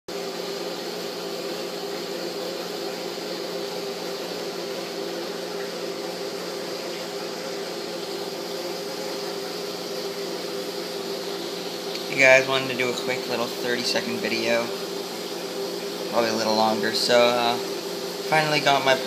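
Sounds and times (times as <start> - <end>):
aquarium filter pump humming: 0.1 - 19.0.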